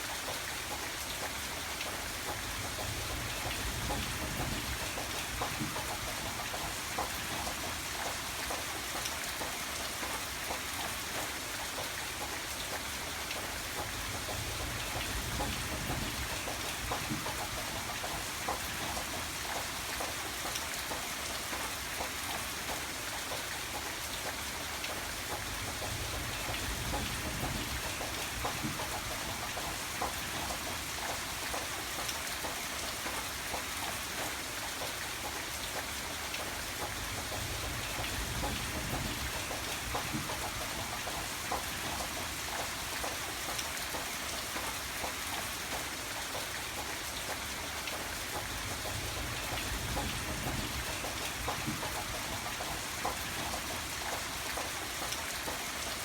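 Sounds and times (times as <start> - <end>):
rain drops ticking: 0.0 - 56.0.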